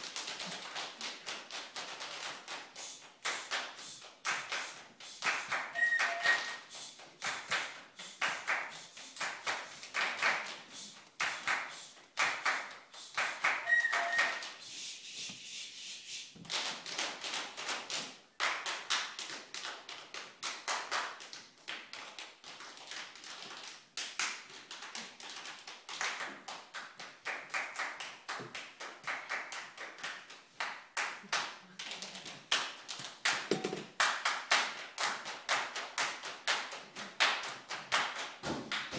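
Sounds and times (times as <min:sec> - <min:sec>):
group body percussion claps and taps: 0:00.0 - 0:38.9.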